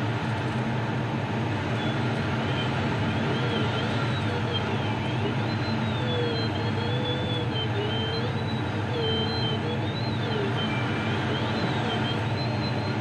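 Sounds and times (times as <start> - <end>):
airflow rushing around cockpit: 0.0 - 13.0
variometer tone sliding in pitch: 1.8 - 13.0.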